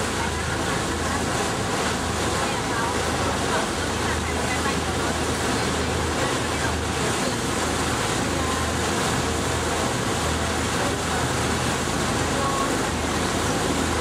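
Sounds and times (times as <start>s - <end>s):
boat engine running: 0.0s - 14.0s
water rushing past hull: 0.0s - 14.0s.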